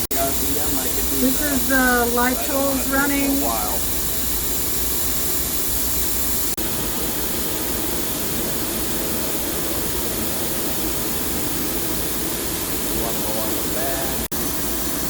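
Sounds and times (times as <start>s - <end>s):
constant hiss: 0.0s - 15.0s
lathe machine whirring: 0.0s - 15.0s.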